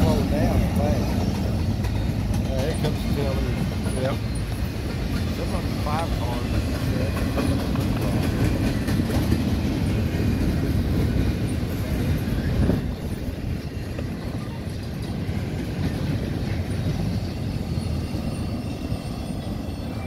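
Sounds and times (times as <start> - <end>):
freight train wheels rumbling on rails: 0.0 - 20.0.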